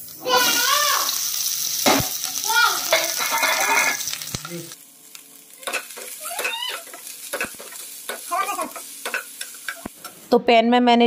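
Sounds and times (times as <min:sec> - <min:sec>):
vegetables sizzling in pan: 0:00.0 - 0:10.4.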